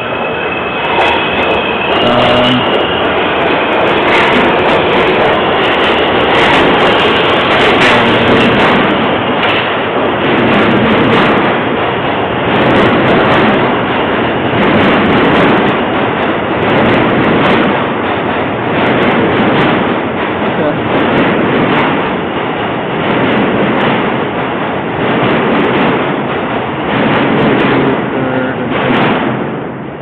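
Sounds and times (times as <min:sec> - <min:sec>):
subway train rumbling past: 0:00.0 - 0:30.0
wheels clacking on rails: 0:00.0 - 0:30.0.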